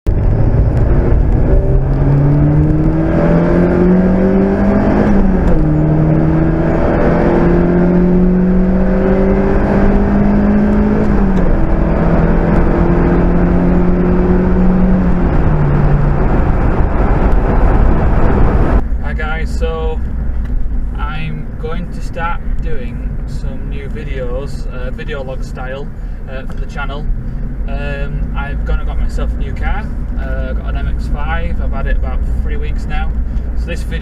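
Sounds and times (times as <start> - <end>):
car engine accelerating: 0.1 - 34.0
road and wind noise: 0.1 - 34.0.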